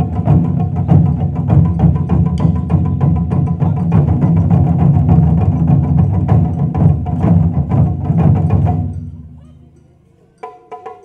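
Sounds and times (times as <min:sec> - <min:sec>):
taiko drums struck rapidly: 0:00.0 - 0:09.4.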